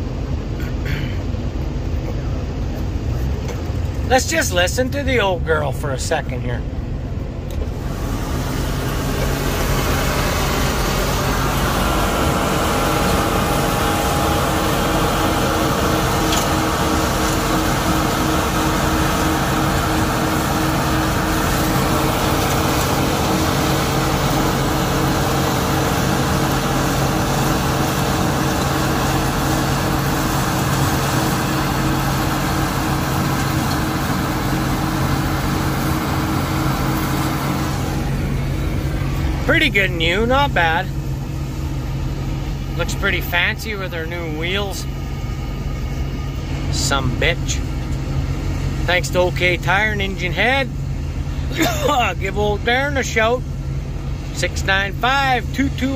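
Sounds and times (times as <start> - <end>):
combine harvester running: 0.0 - 55.9
whining machine tones: 1.5 - 55.9.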